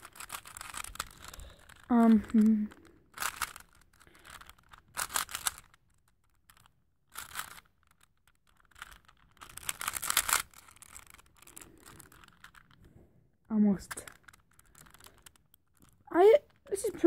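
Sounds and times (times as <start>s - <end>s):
puzzle cube clicking: 0.0s - 12.9s, 13.8s - 17.0s.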